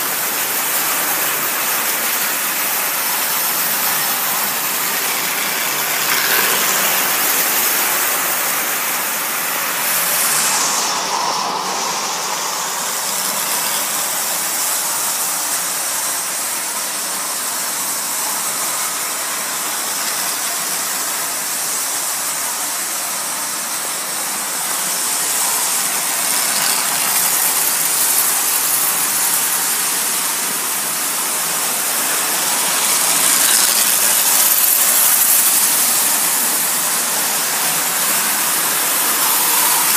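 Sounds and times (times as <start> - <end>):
toy train electric motor whirring: 0.0 - 39.9
wheels on rails: 0.0 - 39.9.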